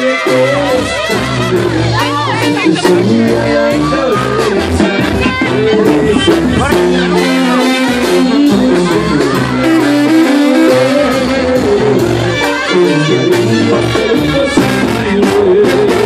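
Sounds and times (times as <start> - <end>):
drums: 0.0 - 16.0
guitar: 0.0 - 16.0
sousaphone bass line: 0.0 - 16.0
trumpet: 0.0 - 16.0.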